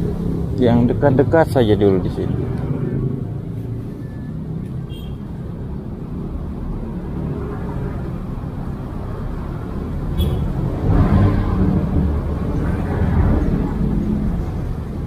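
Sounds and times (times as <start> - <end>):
motor vehicle passing: 0.0 - 15.0
outdoor rumble: 0.0 - 15.0.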